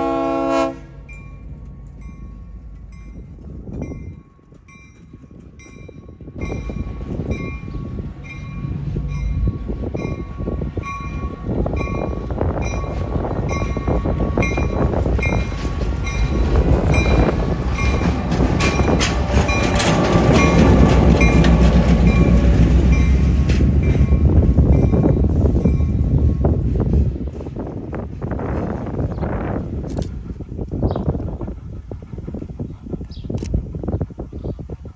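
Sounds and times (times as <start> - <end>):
train passing: 0.0 - 34.9.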